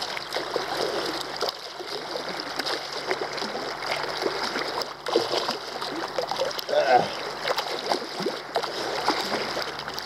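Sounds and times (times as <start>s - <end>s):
water rushing and splashing: 0.0s - 10.0s.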